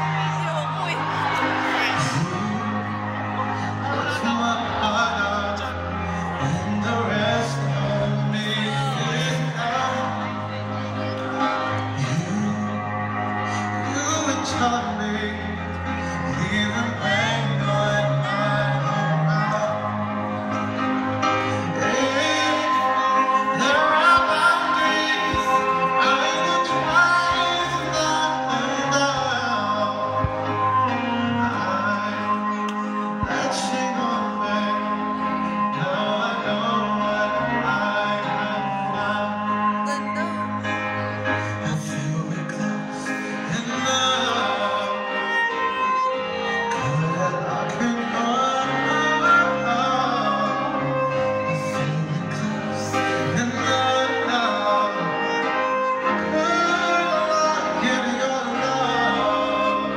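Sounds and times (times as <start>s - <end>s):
acoustic guitar and band: 0.0s - 59.9s
person singing long notes: 0.0s - 59.9s.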